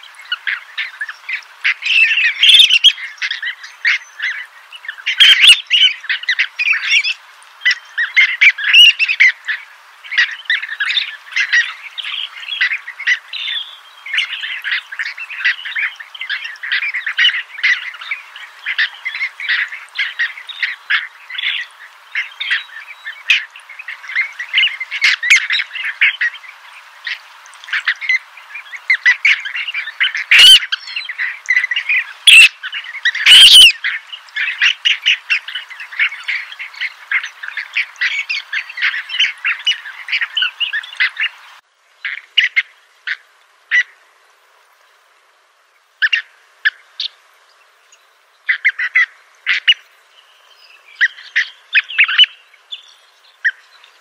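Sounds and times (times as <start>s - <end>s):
birds chirping and chattering: 0.0s - 43.9s, 46.0s - 54.0s.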